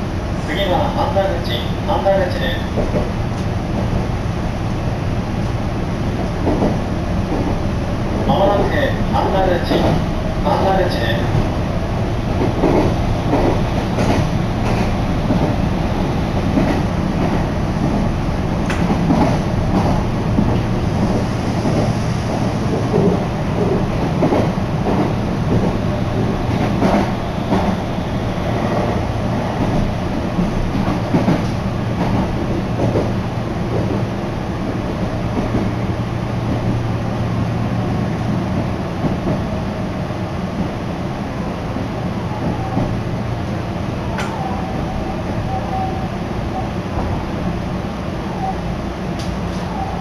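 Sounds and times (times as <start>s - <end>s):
train rumble and hum: 0.0s - 50.0s.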